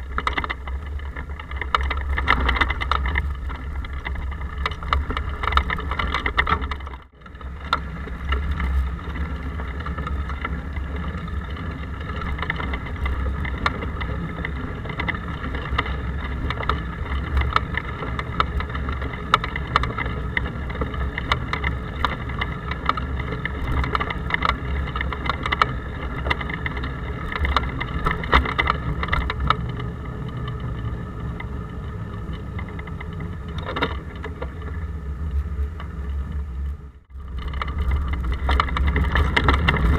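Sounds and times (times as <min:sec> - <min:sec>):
bike rolling on road rumble: 0:00.0 - 0:39.9.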